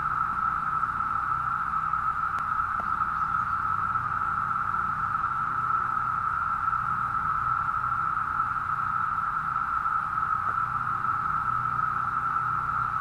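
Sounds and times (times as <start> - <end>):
cicadas buzzing: 0.0 - 13.0
faint low hum: 0.0 - 13.0.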